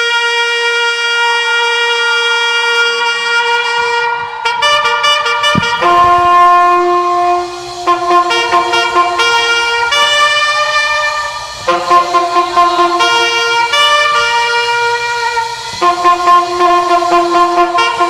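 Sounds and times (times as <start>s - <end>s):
trumpet held notes: 0.0s - 18.0s.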